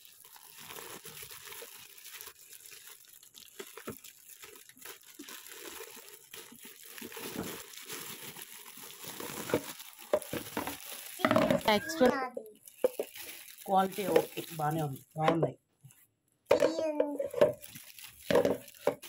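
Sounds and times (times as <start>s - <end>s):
plastic wrap crinkling and tearing: 0.0s - 15.2s, 15.9s - 19.0s.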